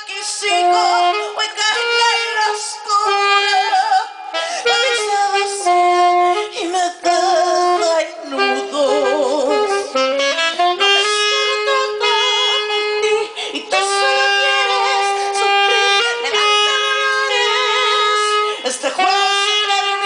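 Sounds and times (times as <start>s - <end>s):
woman singing into a microphone: 0.0s - 20.0s.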